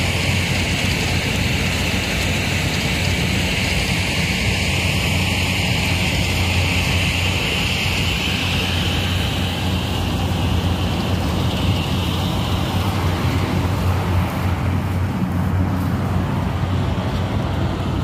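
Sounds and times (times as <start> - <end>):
broad rushing noise: 0.0 - 18.0
engine humming: 0.0 - 18.0
high hiss: 0.0 - 18.0.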